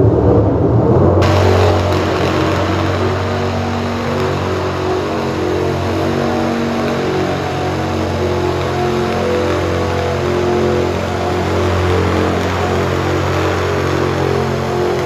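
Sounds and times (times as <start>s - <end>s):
diesel pickup truck engine running: 1.2s - 15.0s.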